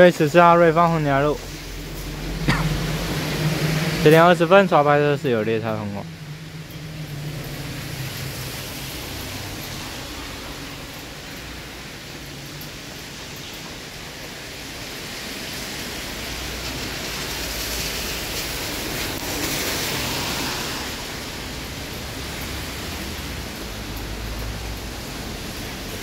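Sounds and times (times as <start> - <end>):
rain on wet road: 0.0 - 26.0.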